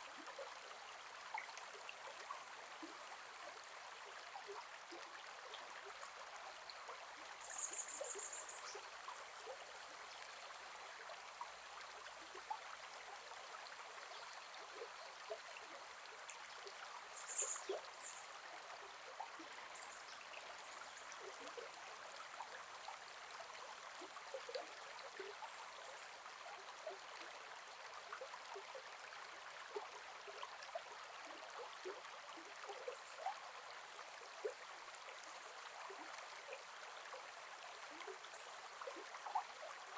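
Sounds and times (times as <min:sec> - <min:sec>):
river flowing and bubbling: 0:00.0 - 0:39.9.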